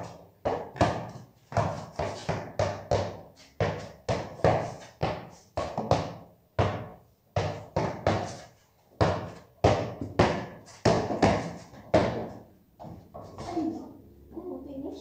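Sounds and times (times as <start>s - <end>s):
basketball bouncing on concrete: 0.0s - 13.5s.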